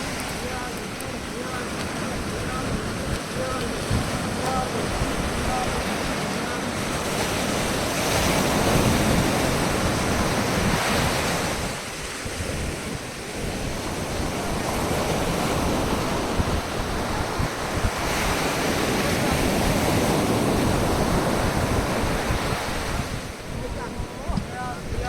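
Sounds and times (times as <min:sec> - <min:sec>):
sea waves washing onto beach: 0:00.0 - 0:25.0
wind on microphone: 0:00.0 - 0:25.0.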